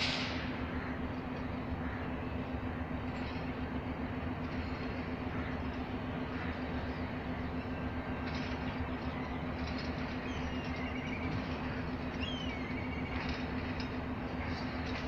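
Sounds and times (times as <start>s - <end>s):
diesel train engine drone: 0.0s - 15.0s
rumble of train coaches: 0.0s - 15.0s.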